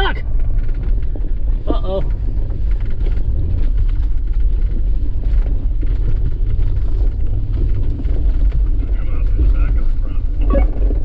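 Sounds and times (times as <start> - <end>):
truck engine low rumble: 0.0 - 11.0
light rattles: 0.2 - 11.0.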